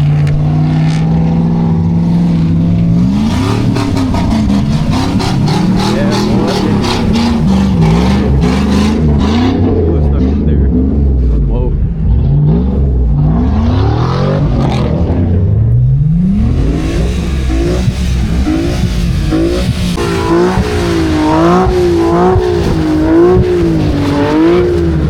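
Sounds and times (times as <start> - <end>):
car engine revving hard: 0.0 - 25.0.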